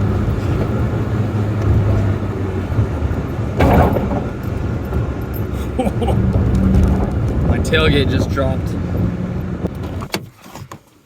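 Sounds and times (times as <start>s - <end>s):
noisy rush: 0.0s - 10.1s
vehicle engine humming: 0.0s - 10.2s.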